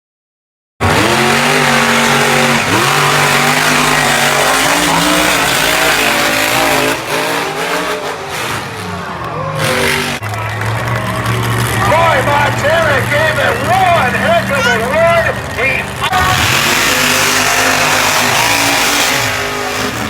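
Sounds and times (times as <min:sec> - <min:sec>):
truck engine revving: 0:00.8 - 0:20.0.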